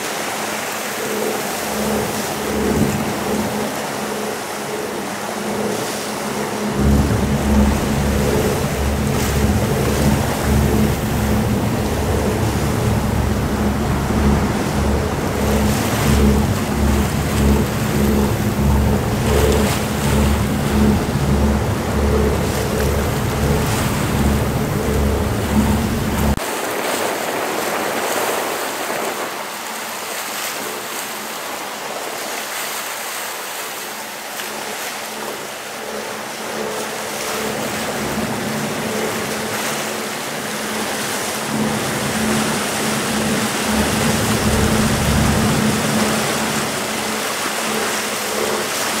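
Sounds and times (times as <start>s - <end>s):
wind and water rushing: 0.0s - 49.0s
wind buffeting microphone: 0.4s - 31.2s, 35.2s - 49.0s.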